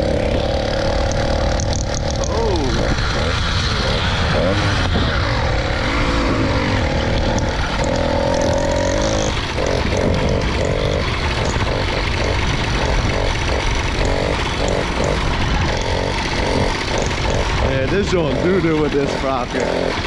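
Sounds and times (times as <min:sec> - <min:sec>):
small motorbike engine stuttering: 0:00.0 - 0:20.0.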